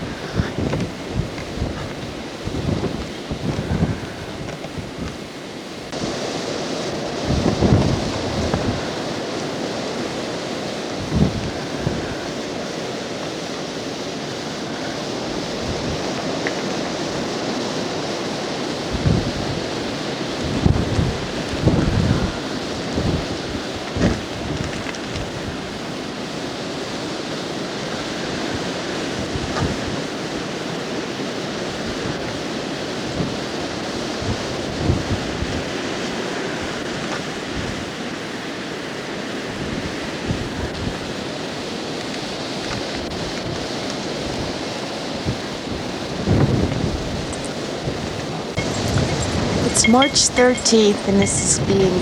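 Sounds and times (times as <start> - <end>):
wind buffeting microphone: 0.0 - 6.2, 6.9 - 12.7, 15.2 - 26.2, 27.8 - 30.6, 31.4 - 38.0, 39.4 - 41.8, 42.4 - 49.8.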